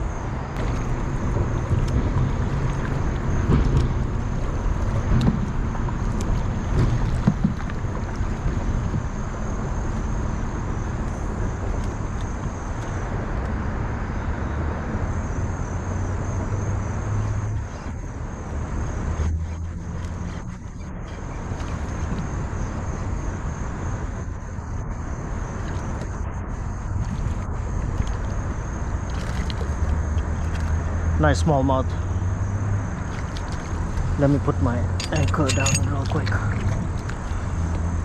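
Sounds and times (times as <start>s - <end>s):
wind rumbling on microphone: 0.0s - 31.2s.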